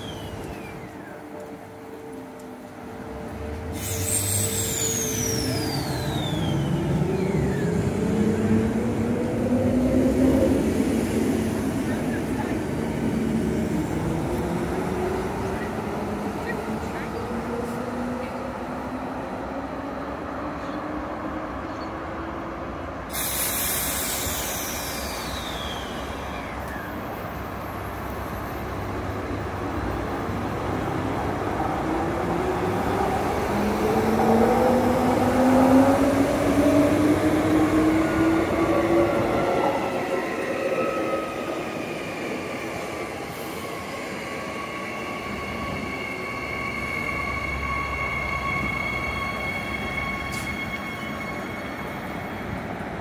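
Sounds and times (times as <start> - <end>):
train passing platform: 0.0 - 53.0.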